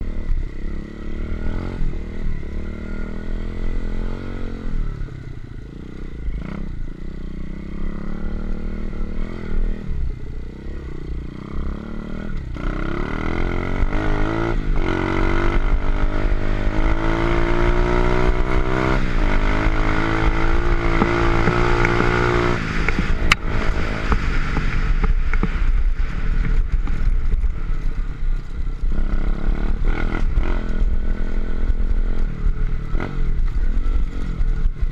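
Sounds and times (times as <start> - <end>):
low rumble: 0.0 - 34.9
motorbike engine revving: 6.2 - 34.9.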